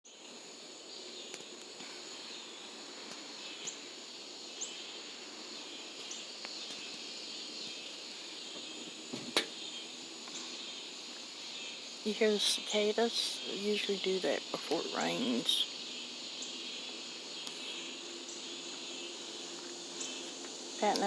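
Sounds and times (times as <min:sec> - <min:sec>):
cicadas buzzing: 0:00.1 - 0:21.0
bird chirps: 0:01.0 - 0:21.0.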